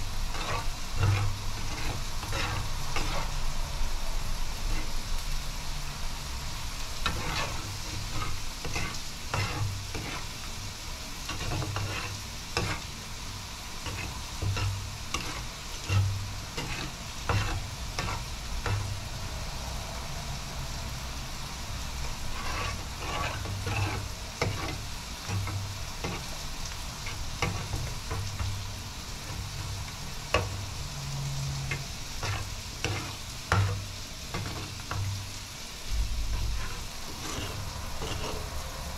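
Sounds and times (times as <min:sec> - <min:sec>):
metal spatula scraping a pan: 0:00.0 - 0:03.6, 0:04.4 - 0:05.2, 0:07.0 - 0:13.2, 0:13.8 - 0:19.2, 0:22.0 - 0:38.9
curry sizzling: 0:00.0 - 0:38.9.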